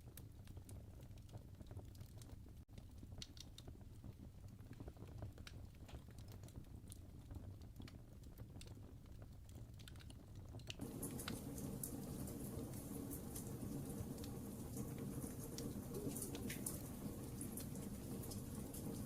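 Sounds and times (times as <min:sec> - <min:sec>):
campfire crackling: 0:00.2 - 0:19.0.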